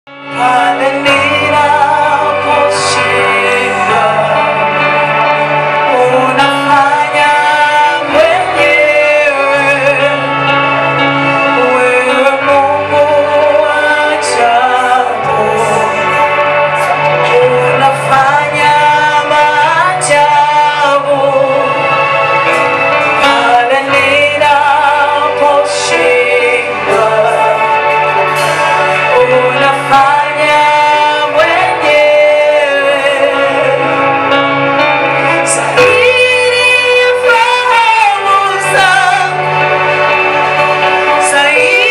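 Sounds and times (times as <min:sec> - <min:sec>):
instrumental accompaniment: 0:00.1 - 0:41.9
voices singing gospel: 0:00.1 - 0:41.9.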